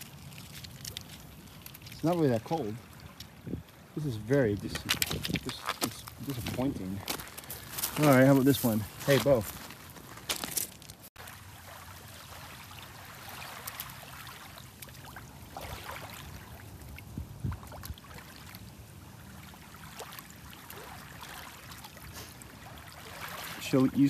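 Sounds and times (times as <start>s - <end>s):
small waves lapping on stones: 0.0s - 24.0s.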